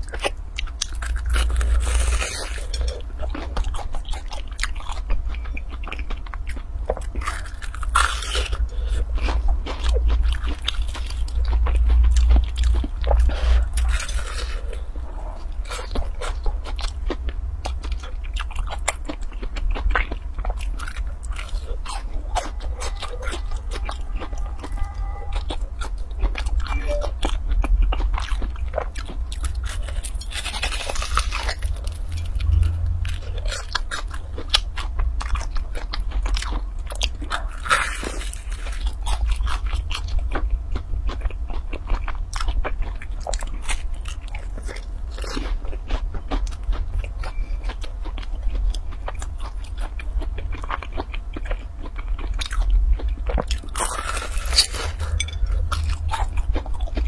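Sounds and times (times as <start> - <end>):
crunchy chewing: 0.0 - 57.0
steady low hum: 0.0 - 57.0.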